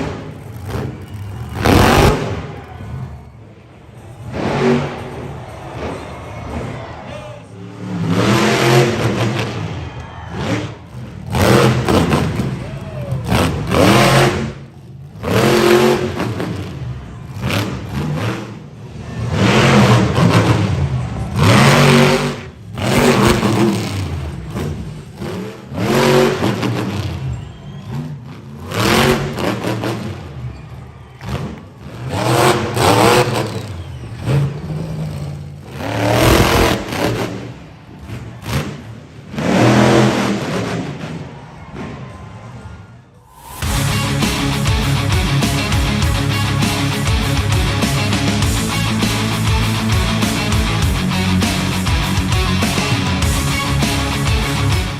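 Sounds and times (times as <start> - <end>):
monster truck engine revving: 0.0 - 54.9.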